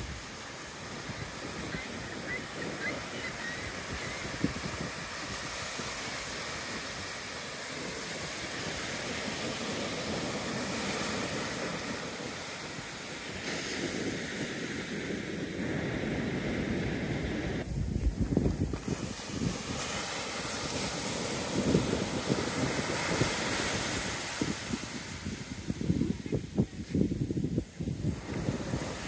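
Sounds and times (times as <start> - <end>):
ocean surf breaking: 0.0 - 26.6, 27.2 - 29.0.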